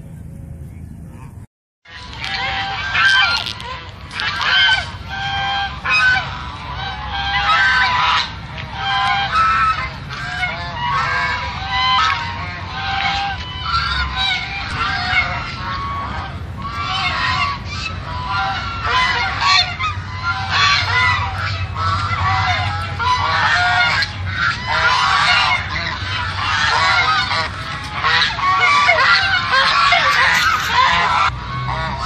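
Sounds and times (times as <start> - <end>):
geese honking: 1.1 - 32.0.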